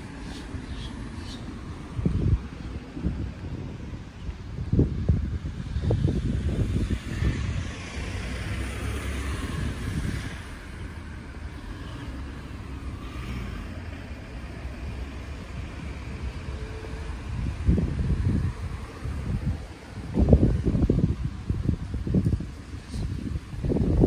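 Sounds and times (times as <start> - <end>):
wind rumbling on microphone: 0.0 - 24.0
car tyre hiss passing: 4.6 - 24.0.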